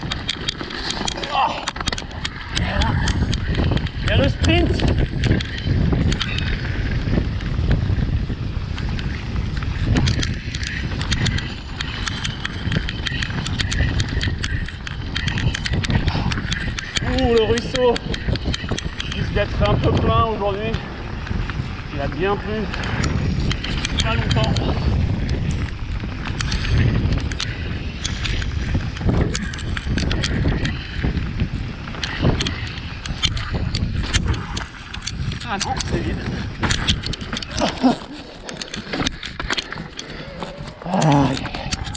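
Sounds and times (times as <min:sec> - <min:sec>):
bike clicks and rattles: 0:00.0 - 0:41.9
bike tyre rumble over dirt: 0:00.0 - 0:41.9
wind noise on microphone: 0:00.0 - 0:41.9.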